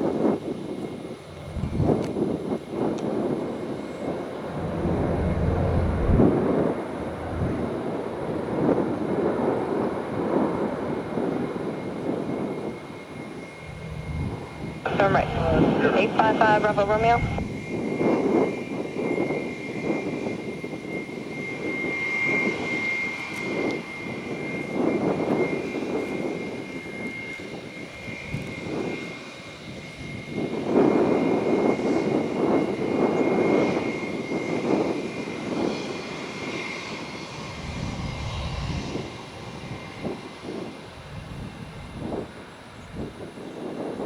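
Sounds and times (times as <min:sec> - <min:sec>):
jet engines whining and rumbling: 0:00.0 - 0:44.0.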